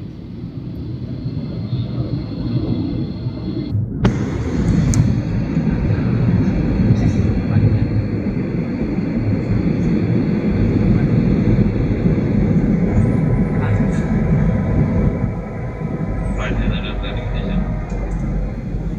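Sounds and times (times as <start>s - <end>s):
airliner landing rumble: 0.0s - 18.9s.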